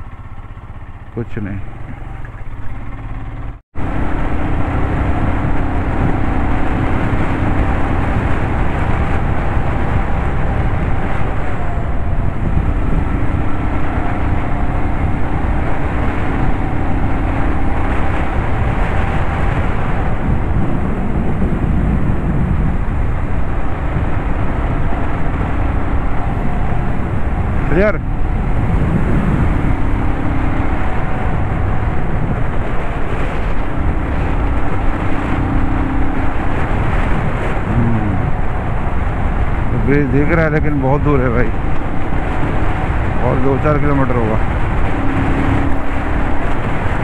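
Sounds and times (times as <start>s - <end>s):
faint motorcycle engine hum: 0.0s - 47.0s
road noise: 0.0s - 47.0s
wind rush over microphone: 3.8s - 47.0s.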